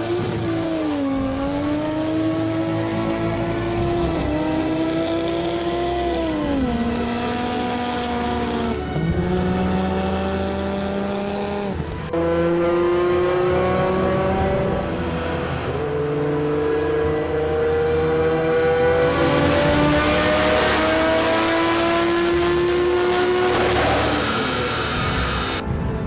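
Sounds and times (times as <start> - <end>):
car engine accelerating: 0.0 - 25.6.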